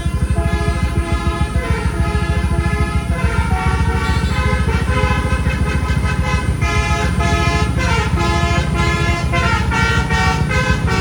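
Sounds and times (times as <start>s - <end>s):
bus engine rumbling: 0.0s - 11.0s
bus multi-tone horn playing a tune: 0.0s - 11.0s.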